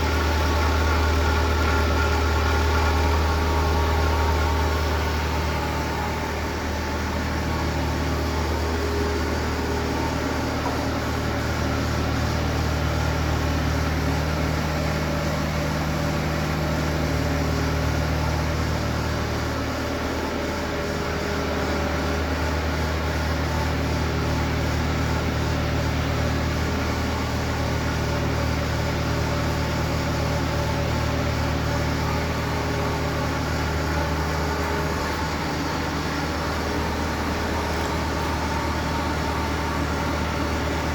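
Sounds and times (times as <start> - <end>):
loader engine running: 0.0 - 40.9.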